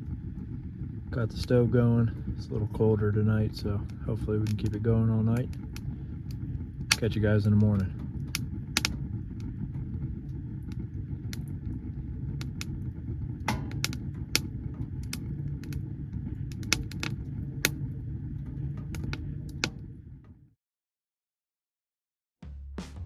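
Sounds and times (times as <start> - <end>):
fire rushing: 0.0 - 20.4
wood crackling and popping: 0.0 - 20.5.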